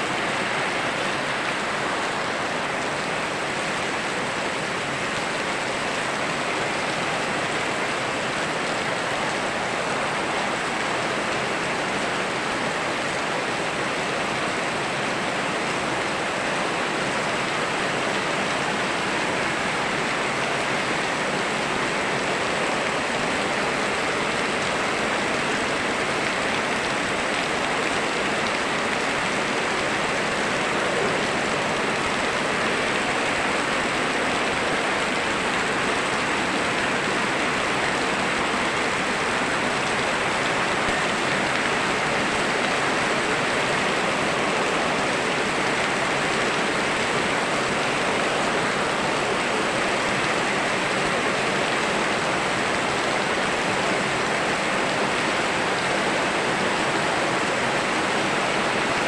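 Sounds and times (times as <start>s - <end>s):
river flowing: 0.0s - 59.0s
steady rain: 0.0s - 59.0s.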